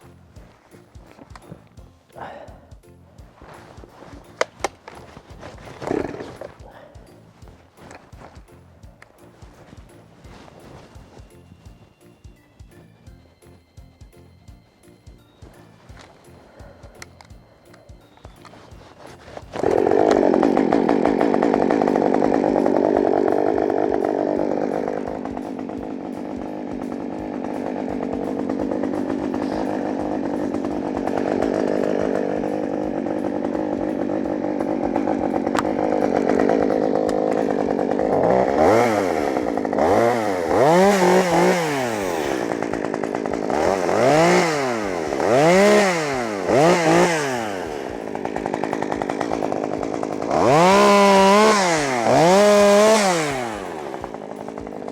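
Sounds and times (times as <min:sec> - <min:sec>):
chainsaw cutting and revving: 0:00.0 - 0:11.8, 0:15.5 - 0:54.9.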